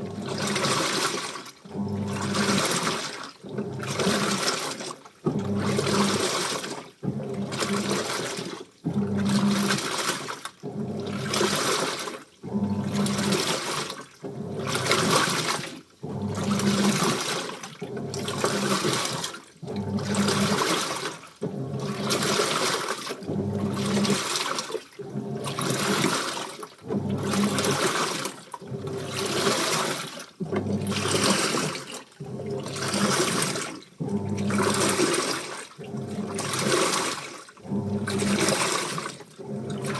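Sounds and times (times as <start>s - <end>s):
washing machine motor hum: 0.0s - 39.9s
water sloshing in washing machine: 0.0s - 39.9s.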